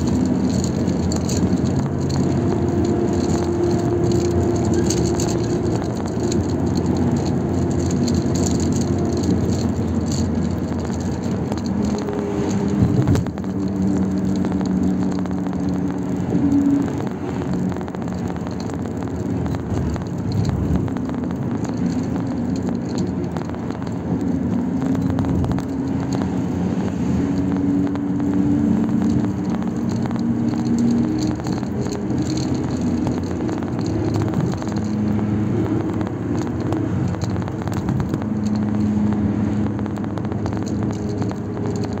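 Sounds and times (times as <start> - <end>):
car engine hum: 0.0 - 42.0
road and tyre noise: 0.0 - 42.0.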